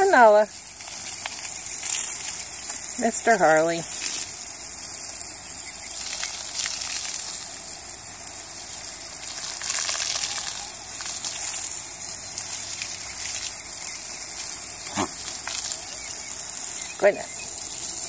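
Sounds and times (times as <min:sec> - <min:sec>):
garden hose spraying water: 0:00.0 - 0:18.0.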